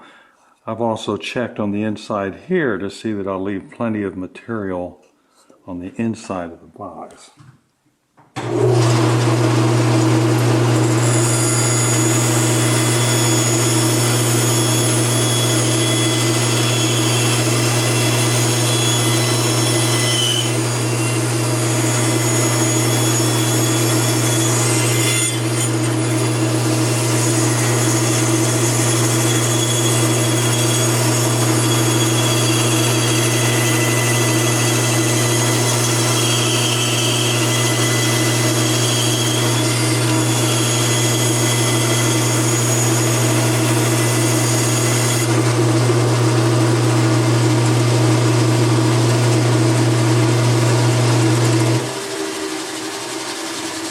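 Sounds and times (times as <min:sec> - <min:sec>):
bandsaw cutting wood: 0:08.4 - 0:53.9.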